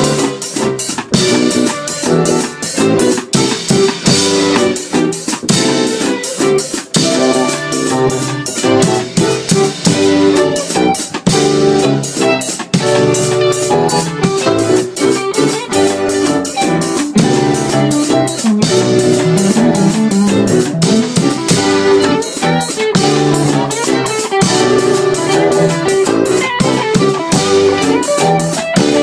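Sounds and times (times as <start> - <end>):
drum kit steady beat: 0.0 - 29.0
electric guitar: 0.0 - 29.0
electronic keyboard: 0.0 - 29.0.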